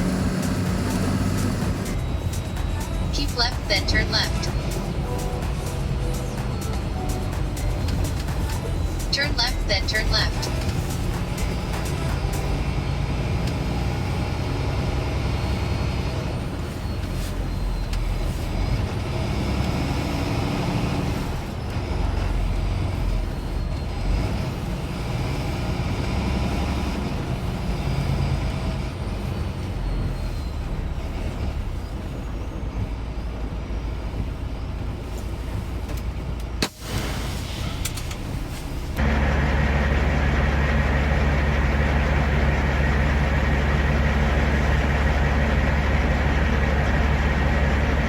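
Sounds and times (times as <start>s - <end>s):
truck engine and road noise: 0.0s - 48.0s.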